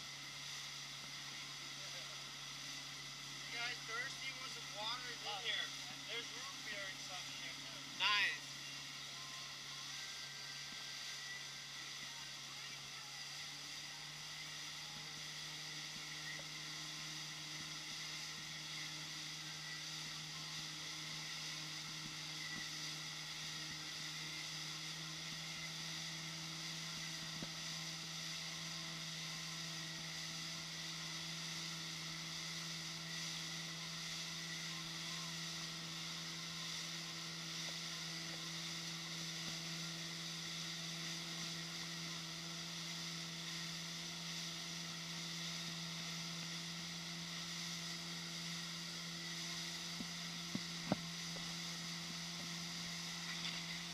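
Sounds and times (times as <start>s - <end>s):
motorboat engine drone: 0.0s - 53.9s.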